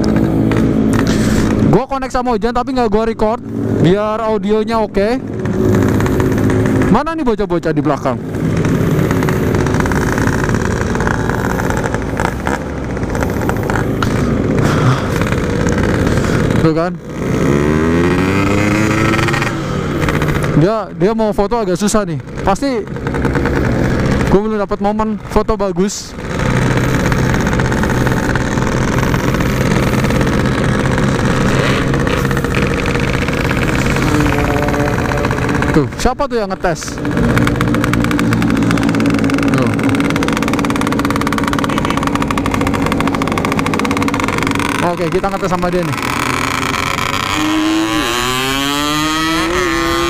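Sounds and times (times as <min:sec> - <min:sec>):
two-stroke motorcycle engine running: 0:00.0 - 0:50.0.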